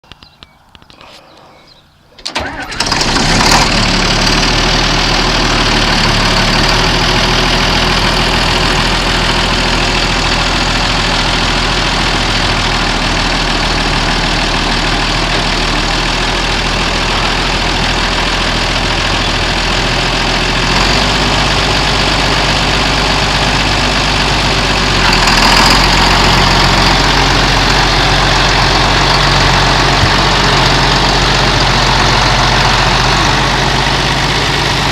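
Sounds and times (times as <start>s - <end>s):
tractor diesel engine starting and running: 0.1s - 34.9s.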